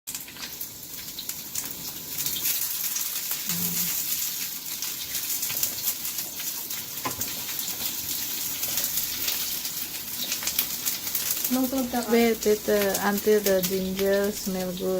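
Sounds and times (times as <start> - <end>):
food sizzling in hot oil: 0.1 - 14.9.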